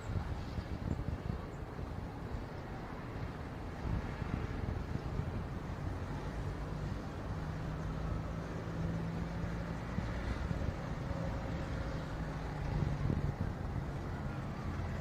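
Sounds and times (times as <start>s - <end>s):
city traffic rumble: 0.0s - 15.0s
wind buffeting microphone: 0.0s - 15.0s.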